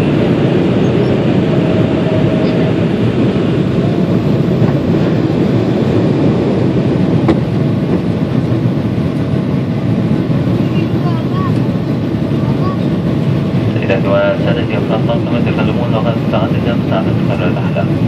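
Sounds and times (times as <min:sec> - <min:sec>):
jet cabin engine rumble: 0:00.0 - 0:18.0.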